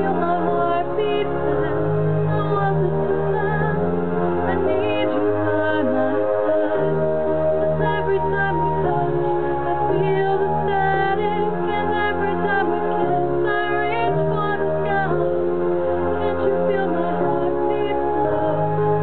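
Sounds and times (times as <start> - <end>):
woman singing slow song: 0.0 - 3.9, 4.5 - 15.4, 16.2 - 19.0
backing track low chords: 0.0 - 19.0.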